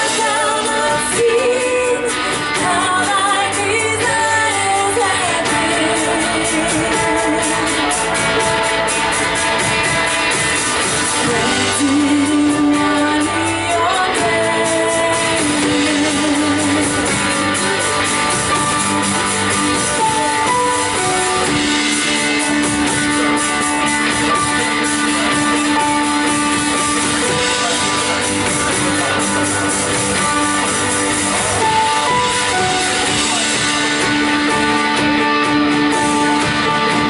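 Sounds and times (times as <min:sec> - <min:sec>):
band playing instrumental: 0:00.0 - 0:37.0
guitars strumming: 0:00.0 - 0:37.0.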